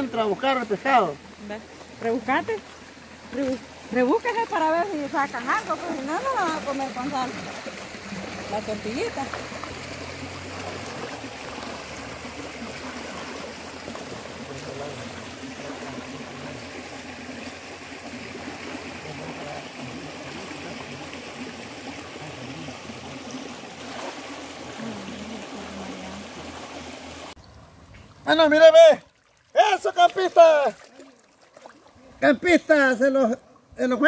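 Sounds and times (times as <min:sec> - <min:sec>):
legs wading through water: 0:00.0 - 0:28.3, 0:29.0 - 0:32.2
stream water rushing: 0:00.0 - 0:34.0.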